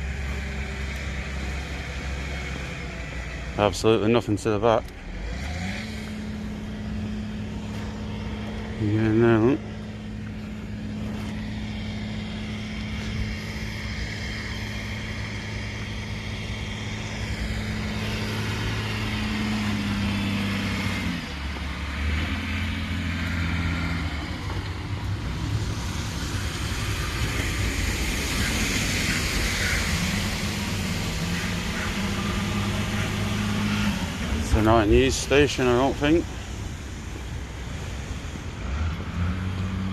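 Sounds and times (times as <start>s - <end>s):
car engine humming: 0.0s - 39.9s
road noise: 0.0s - 39.9s.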